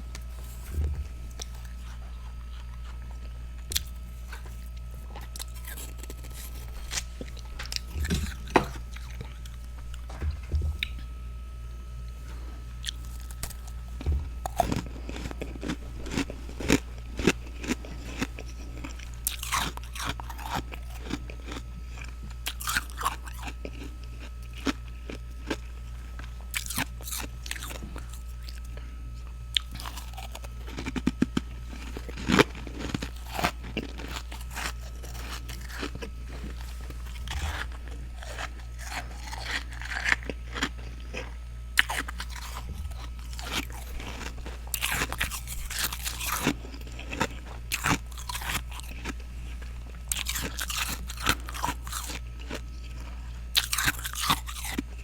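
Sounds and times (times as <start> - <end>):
person chewing frost crunching: 0.0 - 55.0
steady low hum: 0.0 - 55.0.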